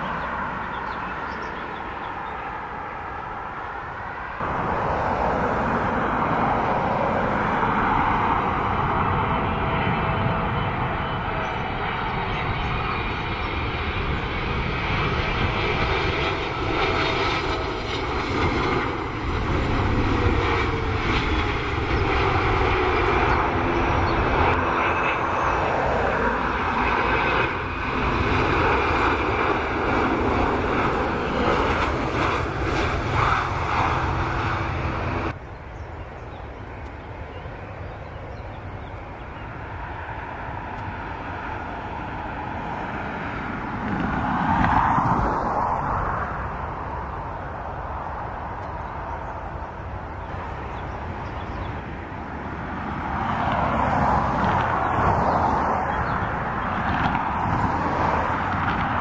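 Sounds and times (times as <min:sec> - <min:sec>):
airliner jet noise: 0:00.0 - 0:59.0
distant approaching jet: 0:00.0 - 0:59.0
jet engine whine: 0:00.0 - 0:59.0.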